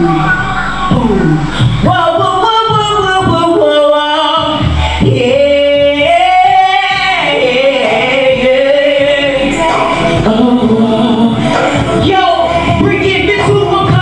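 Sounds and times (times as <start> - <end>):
backing music: 0.0 - 14.0
woman singing into microphone: 0.0 - 14.0.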